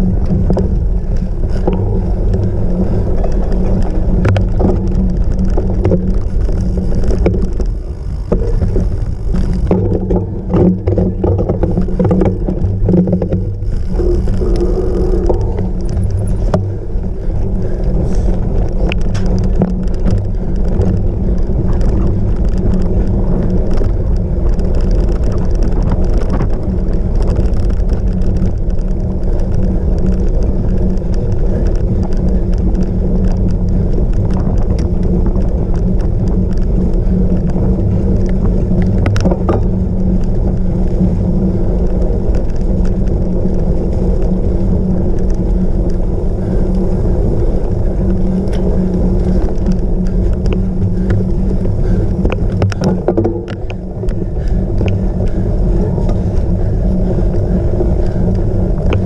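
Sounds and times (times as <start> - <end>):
bike rumbling over rough ground: 0.0 - 59.0.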